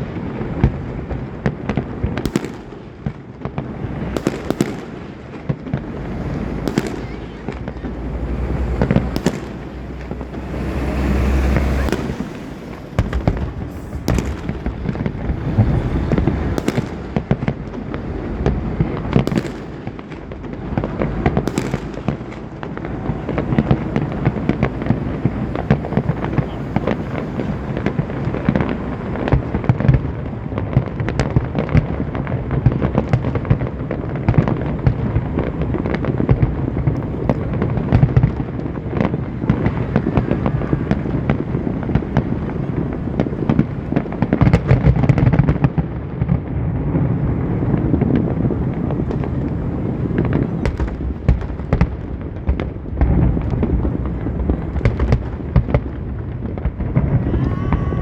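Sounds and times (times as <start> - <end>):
fireworks booming and crackling: 0.0 - 58.0
sharp firework cracks: 0.0 - 58.0.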